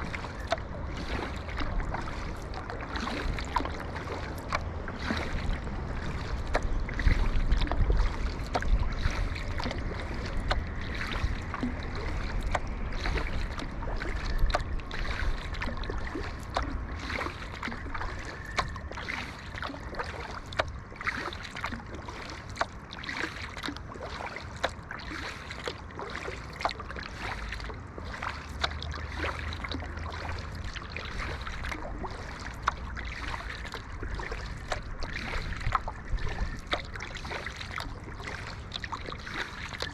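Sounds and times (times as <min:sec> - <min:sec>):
moving water wash: 0:00.0 - 0:39.9
paddle splashing in water: 0:00.0 - 0:39.9
wind rumble on microphone: 0:00.0 - 0:39.9.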